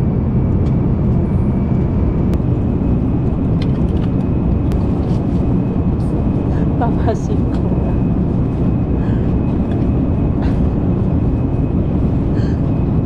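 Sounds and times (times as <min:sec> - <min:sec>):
jet engine and airflow rush: 0:00.0 - 0:13.0.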